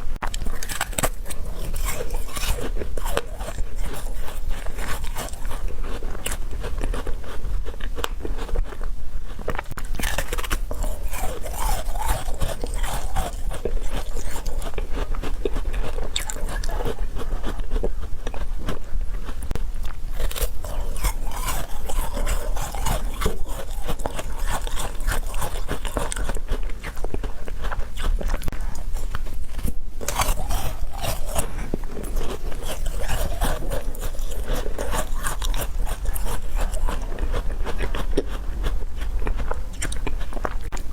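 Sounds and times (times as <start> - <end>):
person crunching and chewing food: 0.0 - 40.9.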